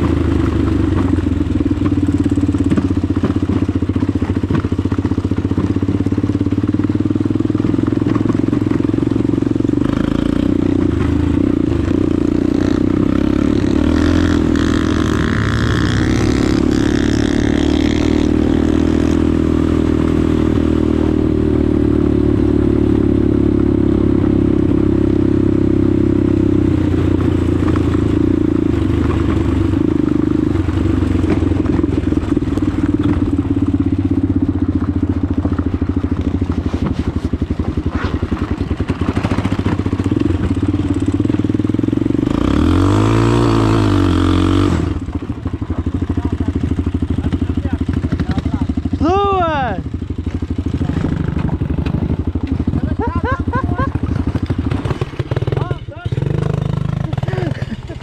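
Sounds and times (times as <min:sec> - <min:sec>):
motorcycle engine running: 0:00.0 - 0:58.0
motorcycle throttle rev: 0:00.0 - 0:58.0.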